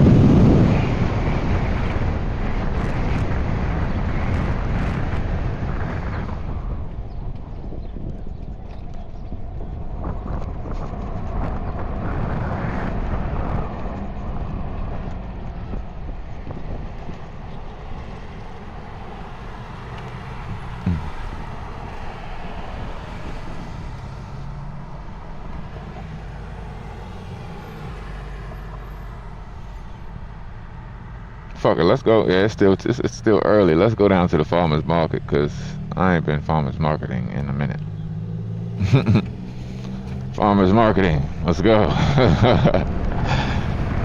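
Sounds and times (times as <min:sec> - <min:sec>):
street traffic rumble: 0:00.0 - 0:44.0.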